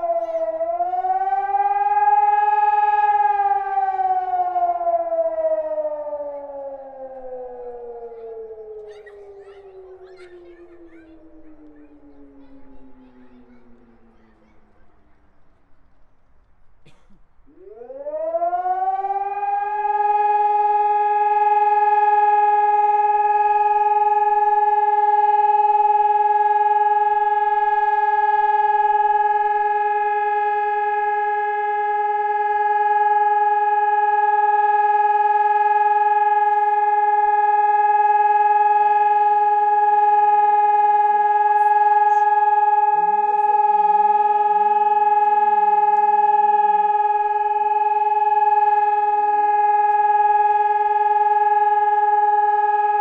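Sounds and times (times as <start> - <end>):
siren winding up to steady tone: 0.0 - 14.4, 17.6 - 53.0.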